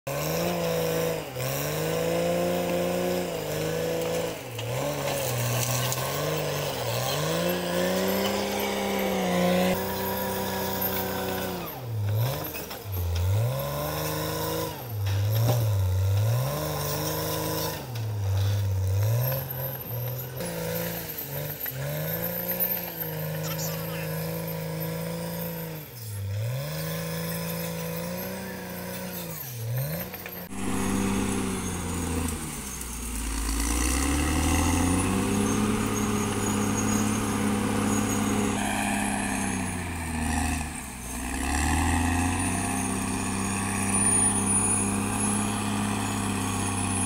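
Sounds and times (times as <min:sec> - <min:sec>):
bulldozer diesel engine under load: 0:00.1 - 0:47.0.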